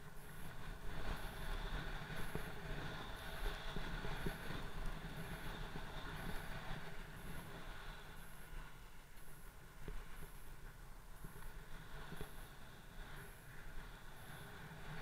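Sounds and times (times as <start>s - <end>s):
board sliding over snow: 0.0s - 15.0s
wind on microphone: 0.0s - 15.0s.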